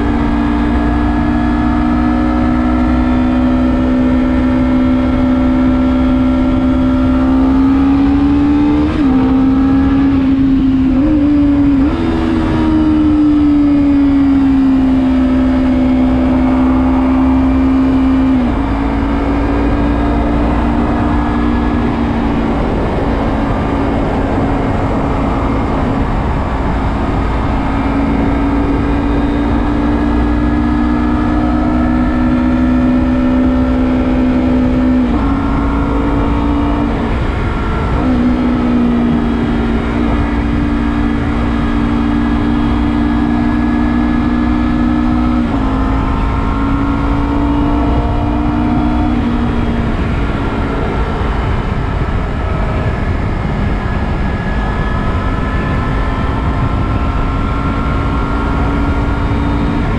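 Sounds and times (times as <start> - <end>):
motorcycle engine at speed: 0.0 - 59.9
wind rumble: 0.0 - 59.9.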